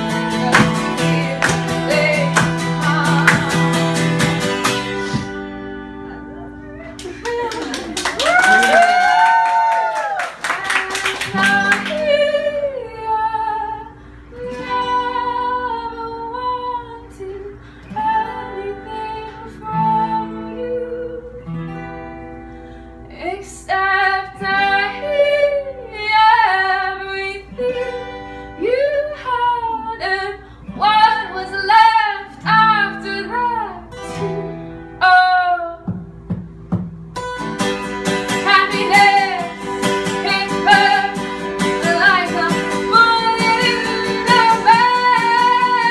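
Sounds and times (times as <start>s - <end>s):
woman singing: 0.0s - 4.2s, 8.4s - 21.5s, 23.1s - 36.0s, 38.2s - 45.9s
strummed acoustic guitar: 0.0s - 7.0s, 10.7s - 45.9s.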